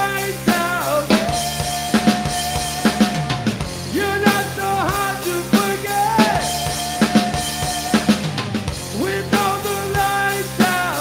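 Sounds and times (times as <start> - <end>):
bass guitar riff: 0.0 - 11.0
rock drum kit beat: 0.0 - 11.0.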